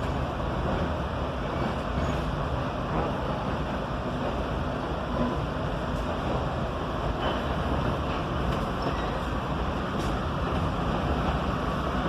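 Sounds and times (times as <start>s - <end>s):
train wheels rolling on track: 0.0s - 12.0s.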